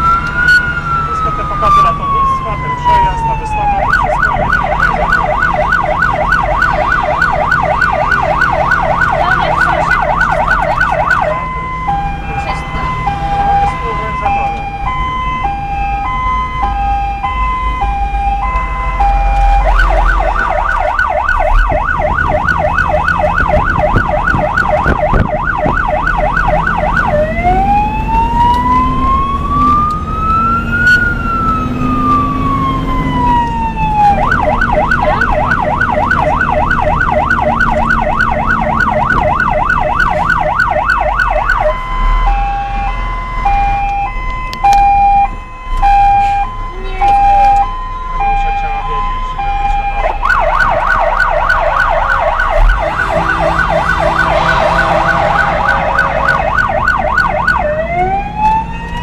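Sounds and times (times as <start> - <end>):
electronic siren: 0.0 - 59.0.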